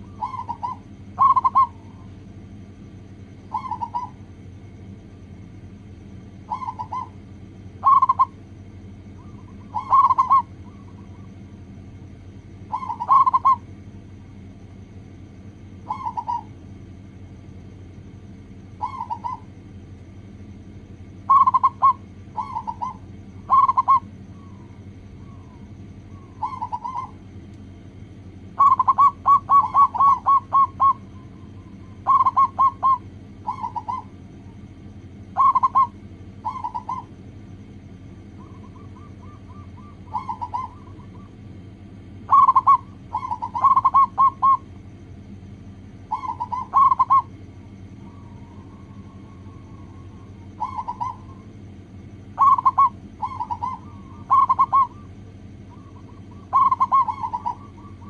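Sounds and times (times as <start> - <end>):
dove cooing: 0.0 - 2.2, 3.3 - 4.5, 6.3 - 13.8, 15.6 - 16.8, 18.3 - 19.6, 21.1 - 27.4, 28.0 - 58.0
steady low hum: 0.0 - 58.0.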